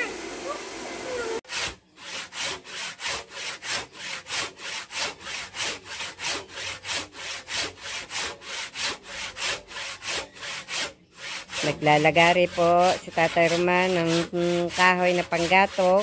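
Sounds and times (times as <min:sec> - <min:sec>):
hand saw cutting wood: 0:00.4 - 0:16.0.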